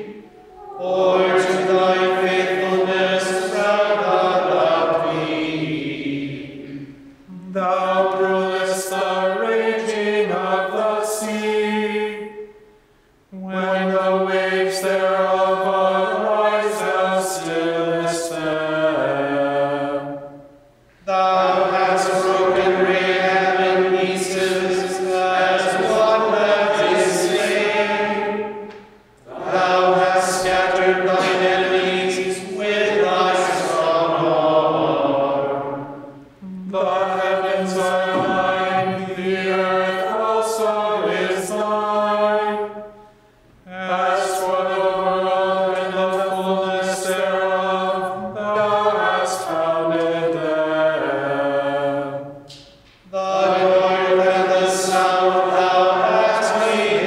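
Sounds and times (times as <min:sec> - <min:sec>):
voices chanting in unison: 0:00.0 - 0:12.5, 0:13.4 - 0:20.4, 0:21.0 - 0:43.0, 0:43.7 - 0:57.0.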